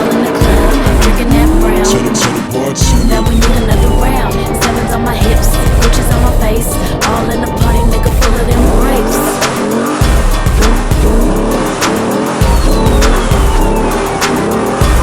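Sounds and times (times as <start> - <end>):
car engines revving: 0.0 - 15.0
hip-hop music with heavy bass: 0.0 - 15.0.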